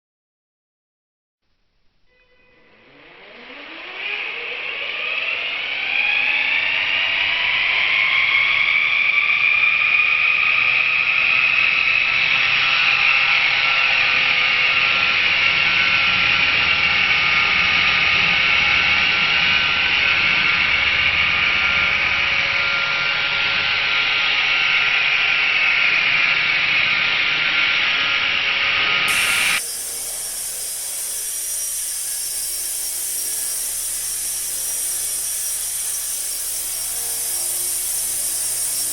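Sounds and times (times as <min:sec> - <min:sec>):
rc helicopter motor whining: 0:02.5 - 0:38.9.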